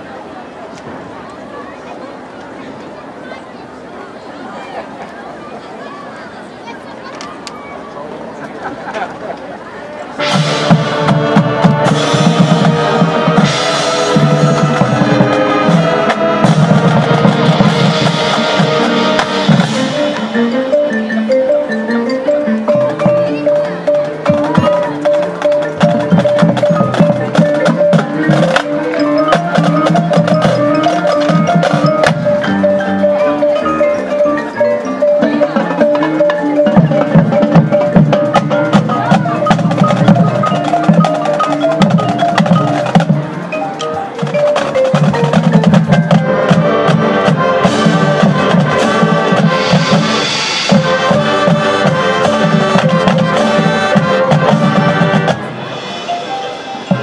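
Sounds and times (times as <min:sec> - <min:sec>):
wind and brass playing: 0:10.0 - 0:57.0
drum strokes: 0:10.2 - 0:57.0
marimbas and xylophones: 0:10.2 - 0:57.0.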